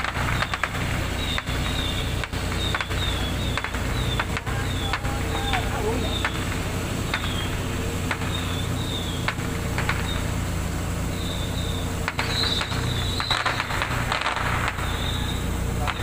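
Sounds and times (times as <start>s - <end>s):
sharp clicks: 0.0s - 10.4s, 11.2s - 16.0s
ship engines droning: 0.0s - 16.0s.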